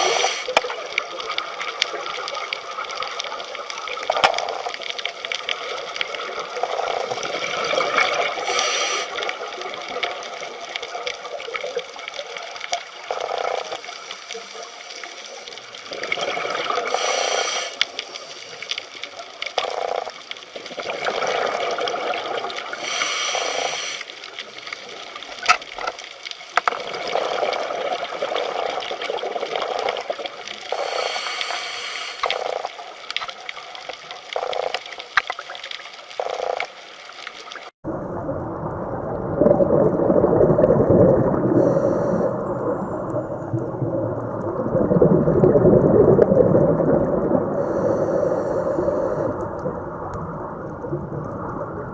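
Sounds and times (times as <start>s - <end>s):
muffled deep-water sound: 0.0s - 51.9s
underwater bubbling and gurgling: 0.0s - 51.9s.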